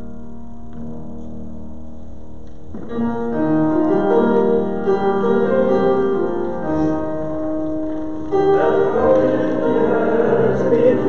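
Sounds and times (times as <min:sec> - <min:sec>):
piano playing sustained chords: 0:00.0 - 0:11.0.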